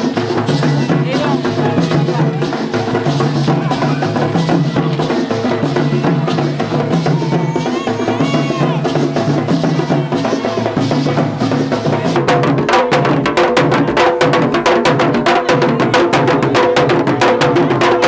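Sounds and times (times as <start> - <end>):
wood-block-like percussion strikes: 0.0 - 18.0.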